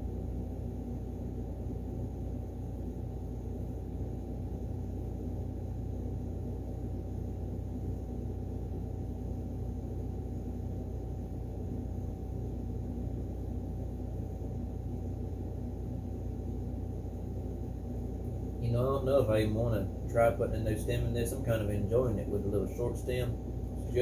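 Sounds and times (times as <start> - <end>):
faint constant tone: 0.0 - 24.0
low background hum: 0.0 - 24.0.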